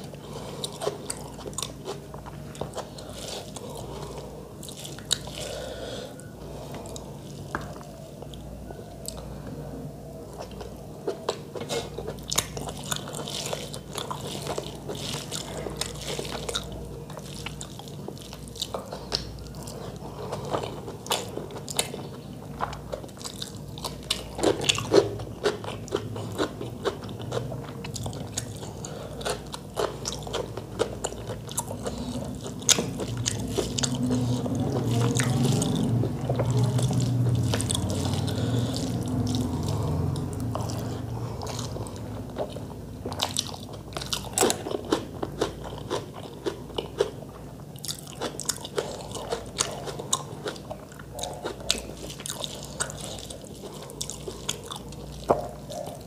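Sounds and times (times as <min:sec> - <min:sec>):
chewing with wet mouth clicks: 0:00.0 - 0:05.5, 0:10.3 - 0:56.0.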